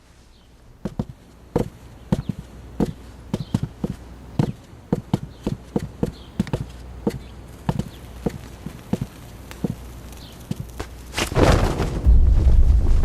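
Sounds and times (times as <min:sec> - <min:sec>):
horse hooves on hard ground: 0:00.8 - 0:11.3.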